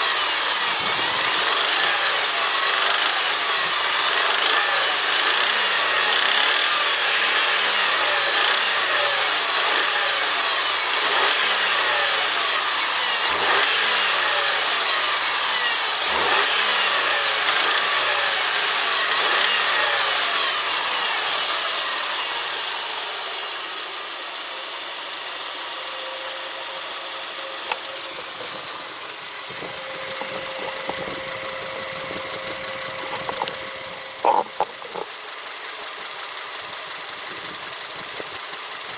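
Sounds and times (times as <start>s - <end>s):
engine running with a knock: 0.0s - 23.1s, 26.4s - 38.9s.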